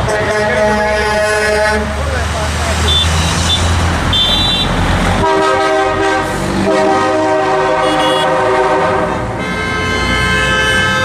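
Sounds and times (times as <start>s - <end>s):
vehicle horn honking: 0.0s - 1.9s, 2.9s - 11.0s
highway traffic rushing: 0.0s - 11.0s.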